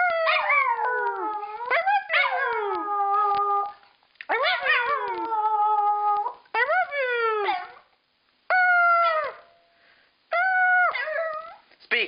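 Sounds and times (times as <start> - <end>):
dog howling: 0.0 - 7.8, 8.5 - 9.5, 10.3 - 11.6.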